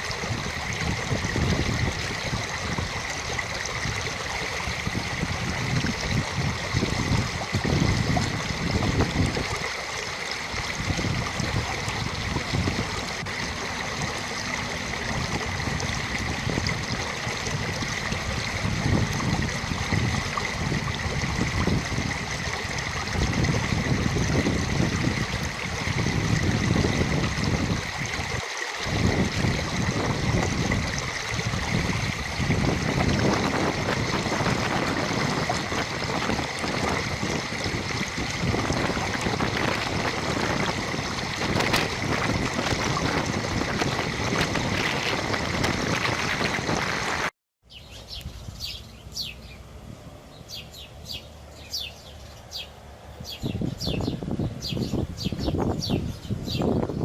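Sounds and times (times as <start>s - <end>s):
wind gusting on microphone: 0.0s - 9.7s, 10.4s - 47.3s, 51.8s - 57.0s
flowing water rushing: 0.0s - 47.3s.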